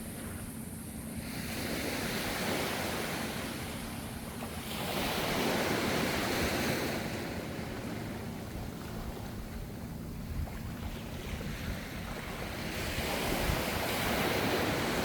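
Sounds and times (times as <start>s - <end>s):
continuous low rumble: 0.0s - 15.0s
ocean waves washing ashore: 0.0s - 15.0s.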